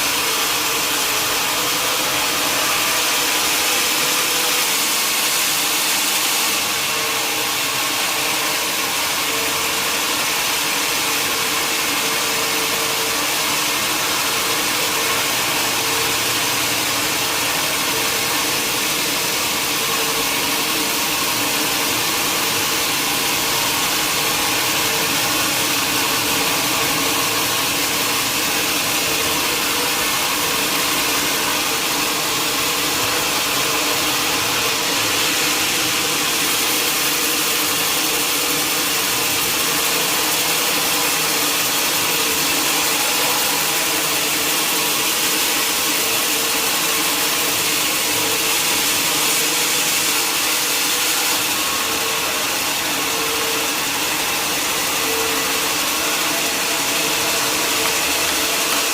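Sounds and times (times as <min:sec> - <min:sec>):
saw cutting through log: 0:00.0 - 0:58.9.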